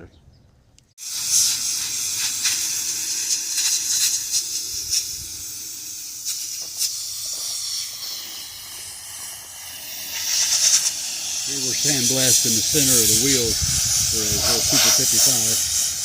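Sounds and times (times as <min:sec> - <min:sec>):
sandblaster hissing: 0:01.0 - 0:16.0.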